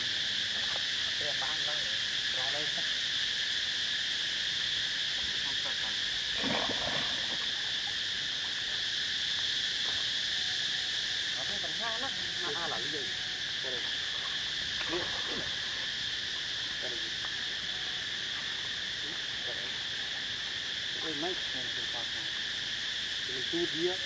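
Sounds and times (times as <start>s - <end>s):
high insect chorus: 0.0s - 24.0s.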